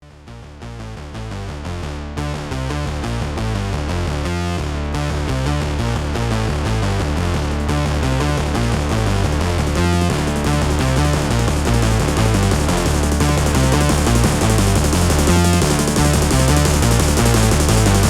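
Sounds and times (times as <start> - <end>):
electronic music with synthesizer: 0.4 - 18.0.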